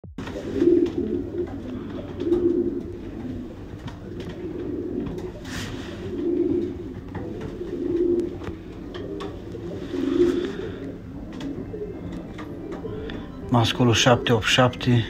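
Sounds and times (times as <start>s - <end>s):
pigeons cooing: 0.2s - 15.0s.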